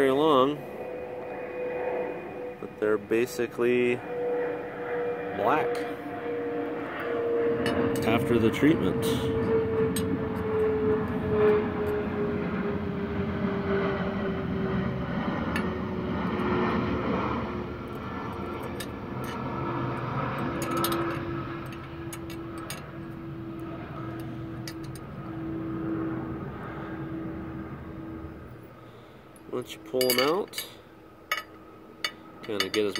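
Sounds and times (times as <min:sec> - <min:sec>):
propeller airplane passing overhead: 0:00.0 - 0:32.9.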